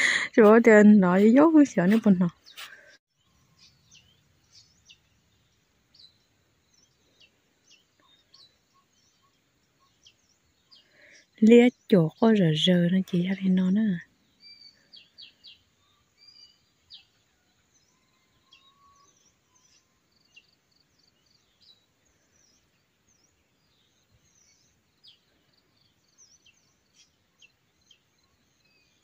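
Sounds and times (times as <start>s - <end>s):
wild birds chirping: 0.0s - 29.0s.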